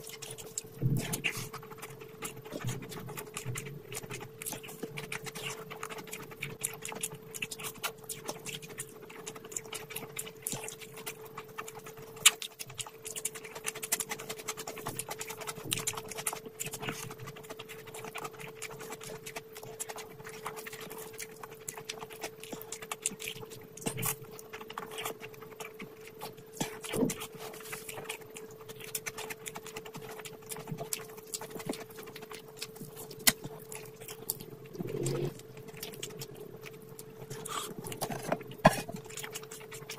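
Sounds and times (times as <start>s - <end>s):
faint steady hum: 0.0s - 39.9s
fingers squishing food: 0.0s - 39.9s
wet chewing and lip smacking: 0.0s - 39.9s.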